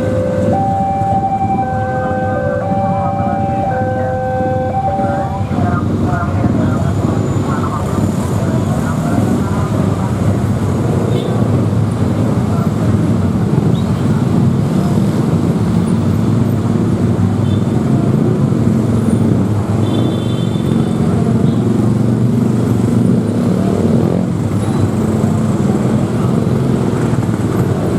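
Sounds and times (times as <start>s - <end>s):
heavy vehicle engines passing: 0.0s - 27.9s.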